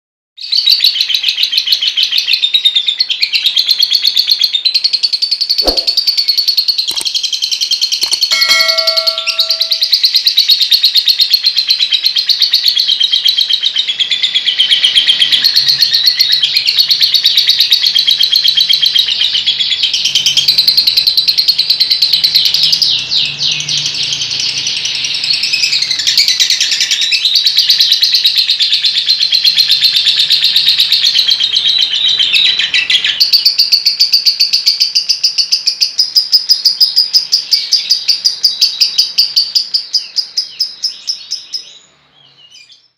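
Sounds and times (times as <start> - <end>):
lovebird chattering chirps: 0.5 - 41.8.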